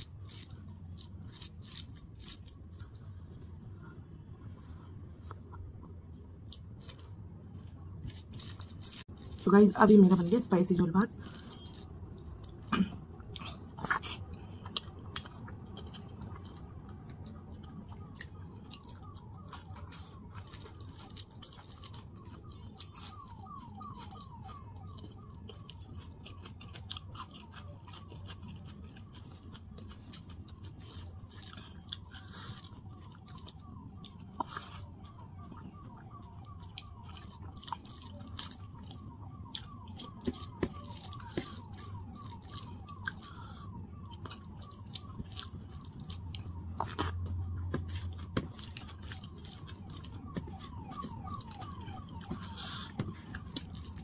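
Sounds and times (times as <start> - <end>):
crunching bites: 0.0 - 3.2, 11.1 - 54.0
chewing and smacking: 0.0 - 54.0.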